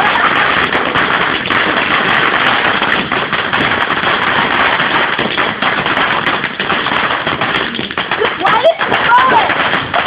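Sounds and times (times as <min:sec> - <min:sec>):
fireworks hissing crackle: 0:00.0 - 0:10.0.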